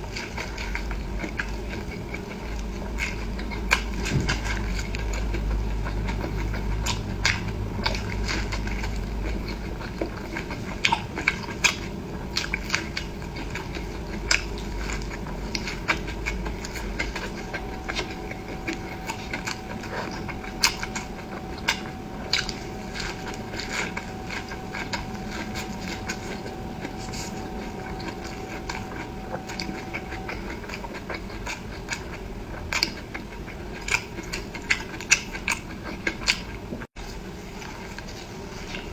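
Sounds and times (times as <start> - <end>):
chewing and biting: 0.0 - 38.9.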